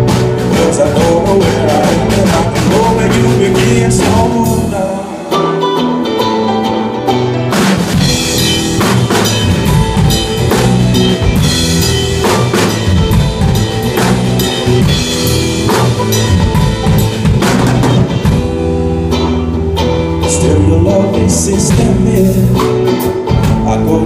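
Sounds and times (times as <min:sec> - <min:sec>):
blues band playing instrumental: 0:00.0 - 0:24.0
drum kit: 0:00.0 - 0:24.0.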